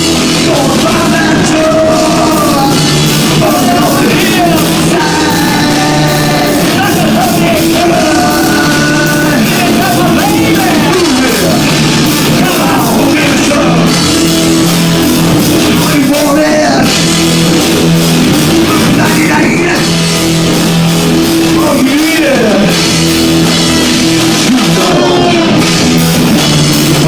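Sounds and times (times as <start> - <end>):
person singing: 0.0 - 17.6, 18.5 - 27.0
distorted live rock band: 0.0 - 27.0.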